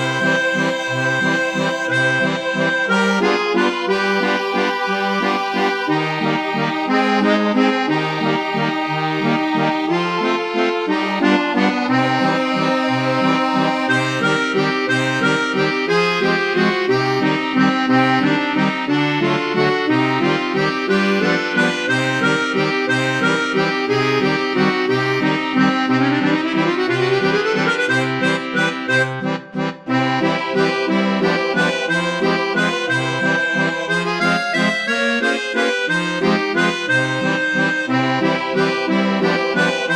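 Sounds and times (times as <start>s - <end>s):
accordion playing a waltz: 0.0s - 39.9s.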